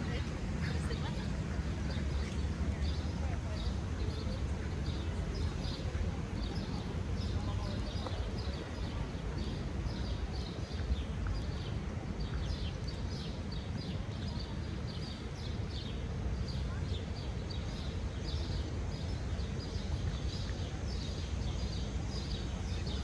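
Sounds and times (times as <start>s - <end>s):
distant traffic rumble: 0.0s - 23.0s.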